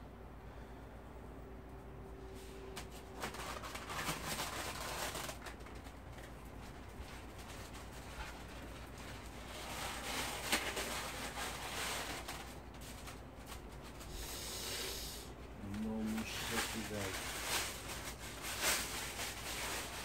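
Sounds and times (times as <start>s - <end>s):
plastic bag rustling: 2.4s - 14.4s, 15.4s - 20.0s.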